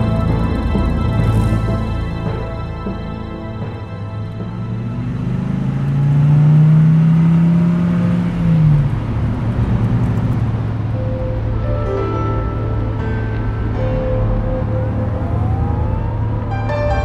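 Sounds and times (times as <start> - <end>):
car engine humming: 0.0 - 17.0.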